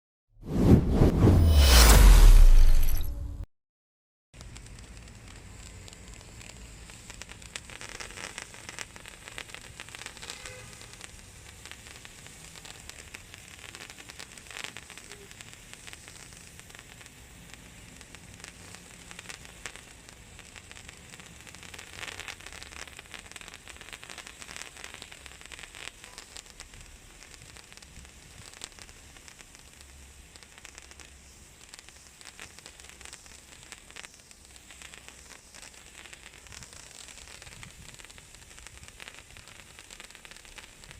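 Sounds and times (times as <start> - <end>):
sparkler fountain crackling: 4.4 - 40.9.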